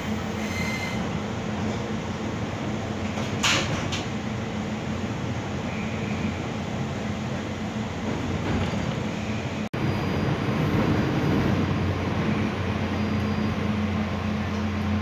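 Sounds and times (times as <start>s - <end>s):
train car rumble and hum: 0.0s - 15.0s.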